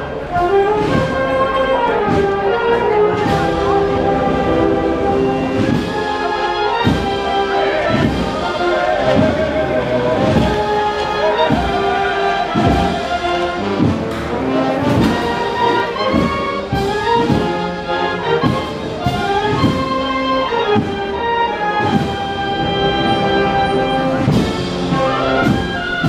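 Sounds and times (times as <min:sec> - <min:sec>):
brass band playing a slow march: 0:00.0 - 0:26.0.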